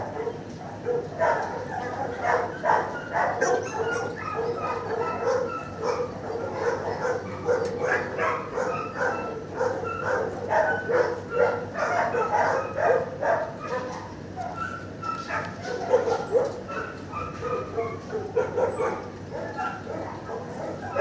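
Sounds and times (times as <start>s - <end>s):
many dogs barking: 0.0s - 21.0s.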